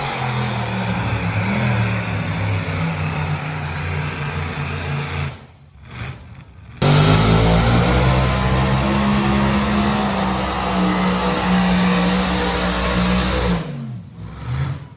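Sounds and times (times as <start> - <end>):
tractor engine under heavy load: 0.0 - 5.3, 6.5 - 14.7.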